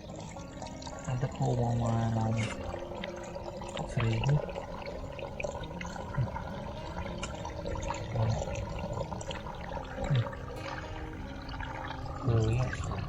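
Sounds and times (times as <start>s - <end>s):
running water flowing: 0.0s - 13.0s.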